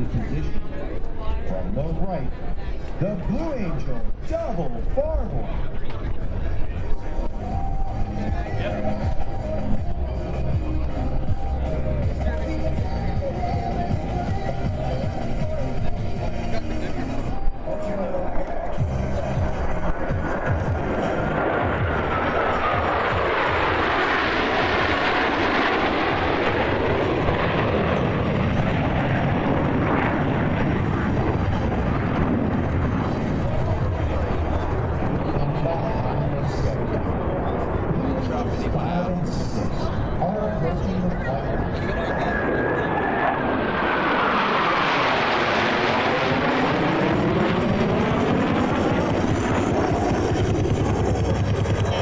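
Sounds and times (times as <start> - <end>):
loud jet engine noise: 0.0 - 52.0.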